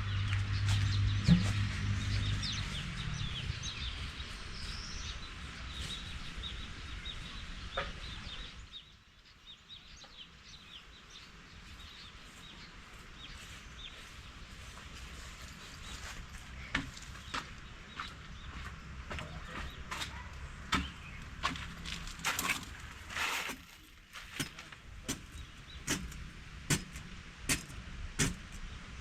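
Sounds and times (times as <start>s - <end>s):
birds chirping: 0.0s - 23.0s, 24.4s - 27.8s.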